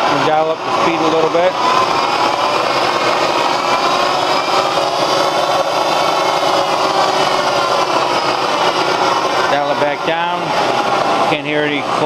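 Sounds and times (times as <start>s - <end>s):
milling machine motor whine: 0.0s - 12.0s.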